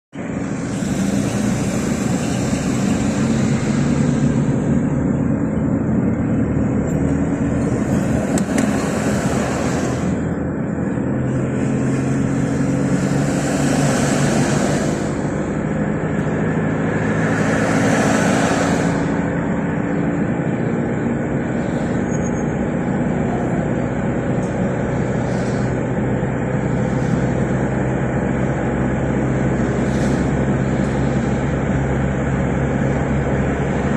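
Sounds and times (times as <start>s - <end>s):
engine hum: 0.0s - 33.9s
vehicles passing: 0.1s - 33.9s.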